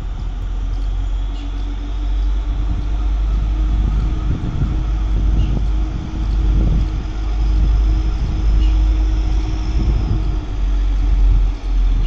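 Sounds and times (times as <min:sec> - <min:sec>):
diesel engine drone: 0:00.0 - 0:12.0
heavy low rumble: 0:00.0 - 0:12.0.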